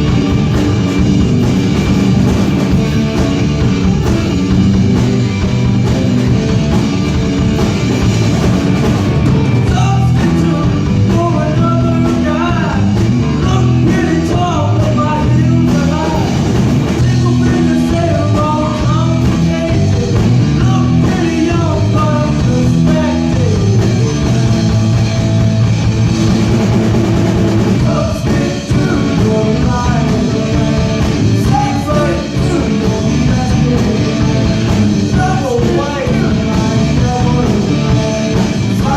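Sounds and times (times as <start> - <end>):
rock music with singing: 0.0 - 38.9.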